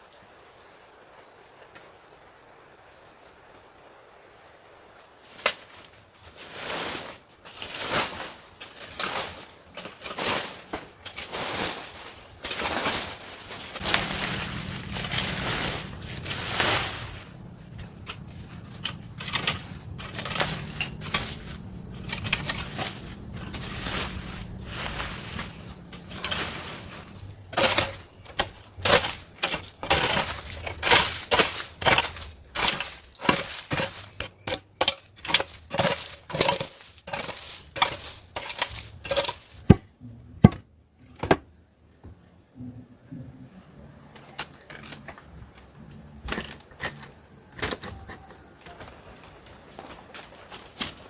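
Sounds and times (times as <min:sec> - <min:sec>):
insects droning: 0:00.0 - 0:51.0.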